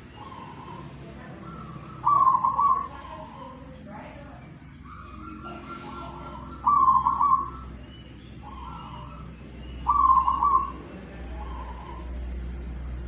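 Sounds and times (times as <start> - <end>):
bird warbling calls: 0.0 - 13.0.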